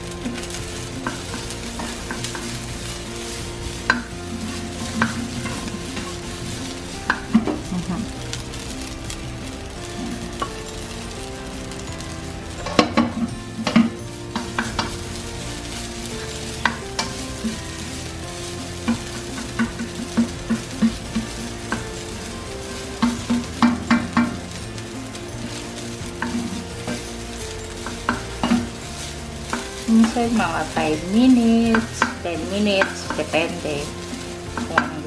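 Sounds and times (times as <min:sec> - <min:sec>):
rice sizzling in a frying pan: 0:00.0 - 0:35.0
spatula scraping a pan: 0:00.0 - 0:35.0.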